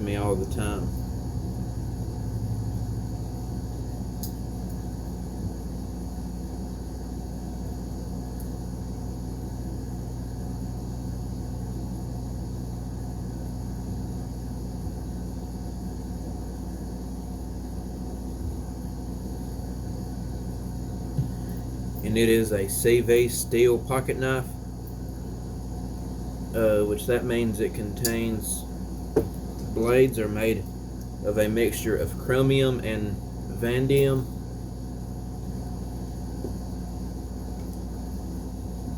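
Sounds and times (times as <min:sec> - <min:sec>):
machine humming: 0:00.0 - 0:15.8, 0:16.8 - 0:38.9.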